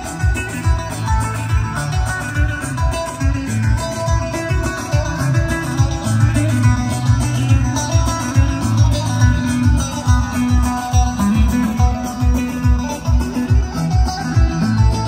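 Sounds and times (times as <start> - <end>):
plucked string or keyboard melody: 0.0 - 15.0.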